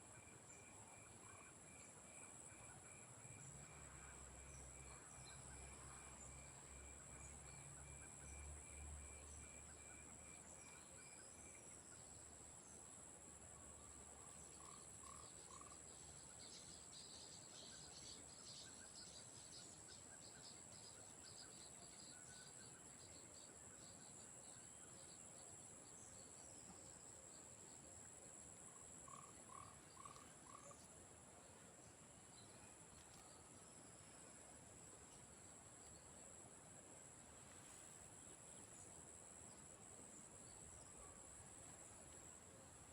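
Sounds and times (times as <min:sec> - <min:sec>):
lower pulsed insect calls: 0:00.0 - 0:42.9.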